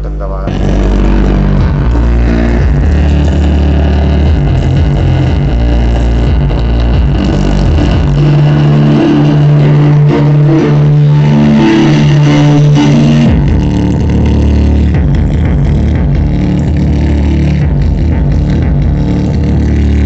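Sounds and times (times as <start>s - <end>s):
loud electronic music: 0.0s - 20.0s.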